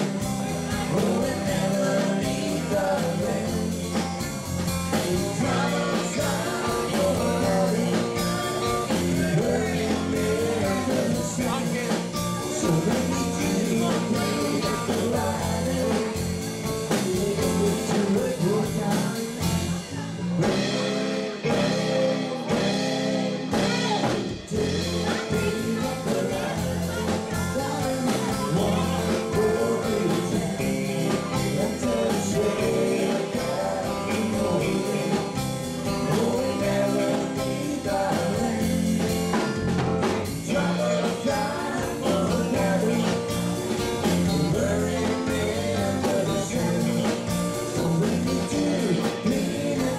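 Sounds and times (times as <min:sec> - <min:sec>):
electric guitar: 0:00.0 - 0:49.9
live country-rock band: 0:00.0 - 0:49.9
person singing: 0:00.0 - 0:49.9.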